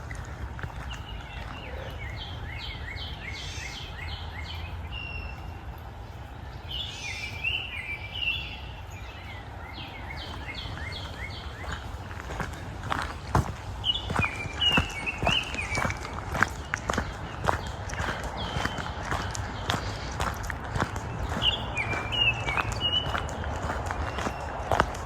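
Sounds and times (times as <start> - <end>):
songbird singing: 0.0 - 25.0.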